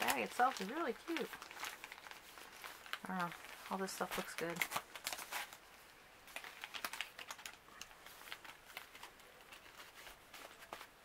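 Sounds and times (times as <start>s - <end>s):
foil sachets crinkling: 0.0s - 11.0s.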